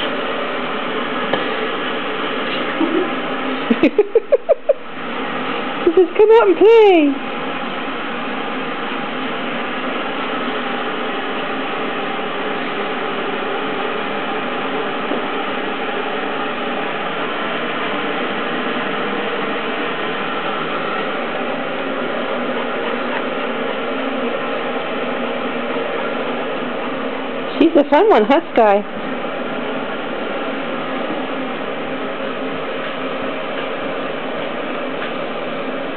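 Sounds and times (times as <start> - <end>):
electric blower hissing: 0.0 - 35.9.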